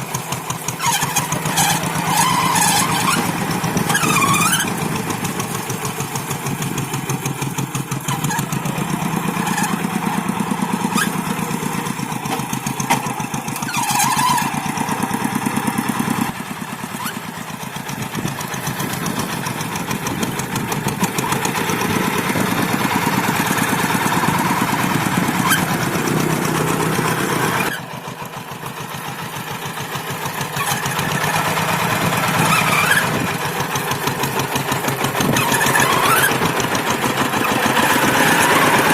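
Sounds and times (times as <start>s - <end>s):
diesel hand tractor engine running: 0.0s - 38.9s.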